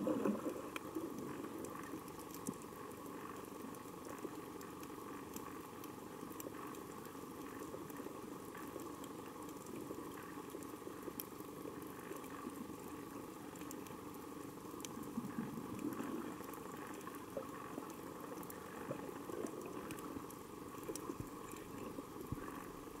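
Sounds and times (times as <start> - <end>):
steady low underwater hiss: 0.0 - 23.0.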